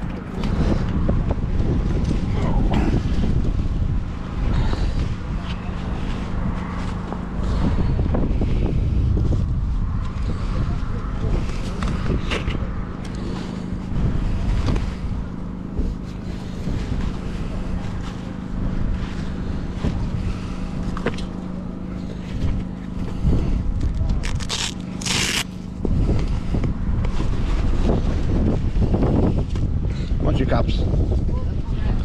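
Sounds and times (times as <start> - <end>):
low hum: 0.0 - 30.2
wind buffeting microphone: 0.0 - 32.0.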